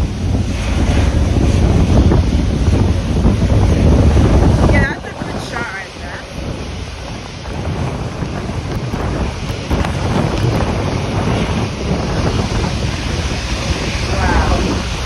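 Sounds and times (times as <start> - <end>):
jet airliner rushing past: 0.0 - 15.0
wind buffeting microphone: 0.0 - 15.0.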